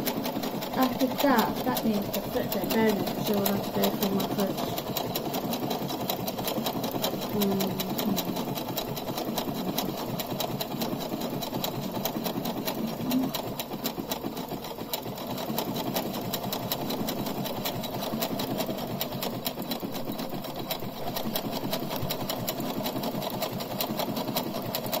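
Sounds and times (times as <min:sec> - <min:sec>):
sewing machine stitching: 0:00.0 - 0:25.0.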